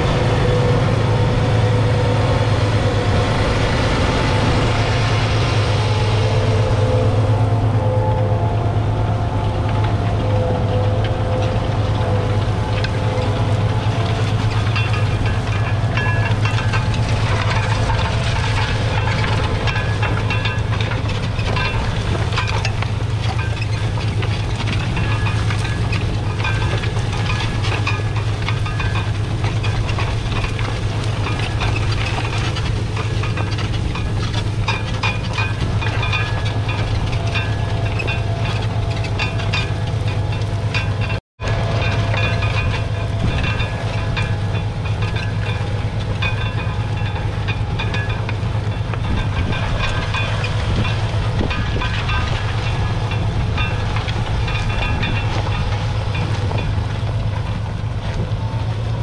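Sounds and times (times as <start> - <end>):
plough cutting through soil: 0.0 - 59.0
tractor diesel engine hum: 0.0 - 59.0.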